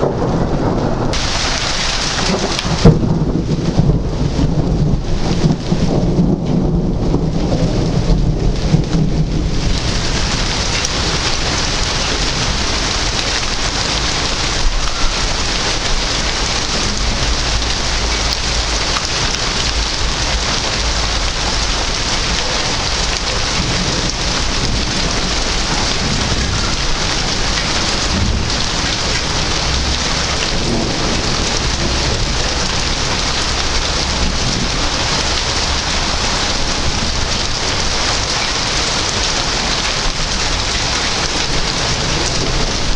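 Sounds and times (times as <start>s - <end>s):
rain falling: 0.0s - 42.9s
thunder rumbling: 0.0s - 42.9s.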